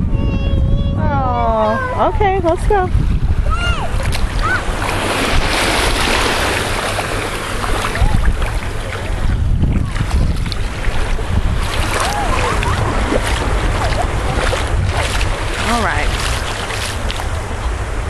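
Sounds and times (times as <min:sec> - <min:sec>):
wind buffeting microphone: 0:00.0 - 0:18.0
surf washing at water's edge: 0:01.0 - 0:18.0.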